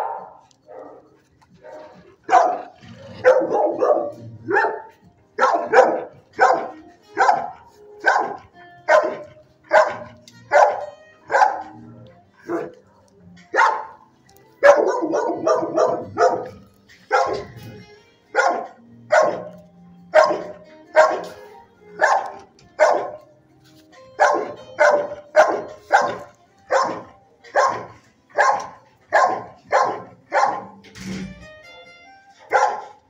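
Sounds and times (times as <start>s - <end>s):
dog barking in a kennel: 0.0s - 31.0s, 32.3s - 33.0s.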